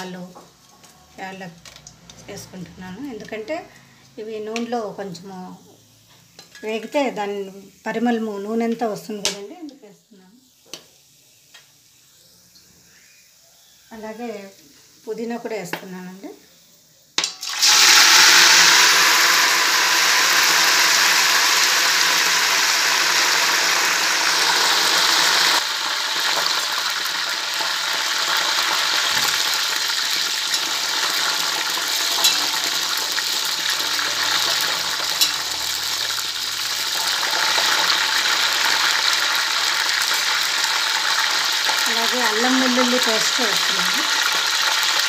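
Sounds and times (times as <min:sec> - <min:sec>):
leaves sizzling in hot oil: 0:00.0 - 0:45.0.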